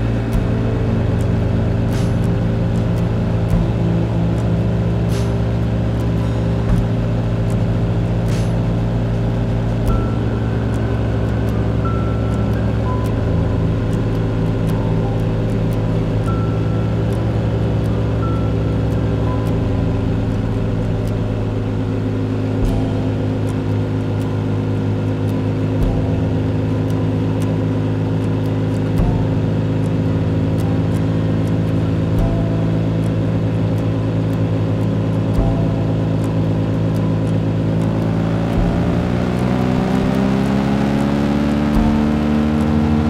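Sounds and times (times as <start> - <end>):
low thumps: 0.0 - 39.2, 41.7 - 42.3
motorcycle engine cruising: 0.0 - 43.0.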